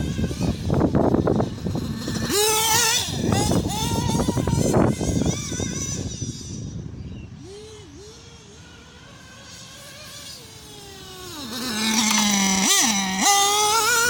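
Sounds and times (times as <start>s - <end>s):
rc buggy engine running: 0.0s - 14.0s.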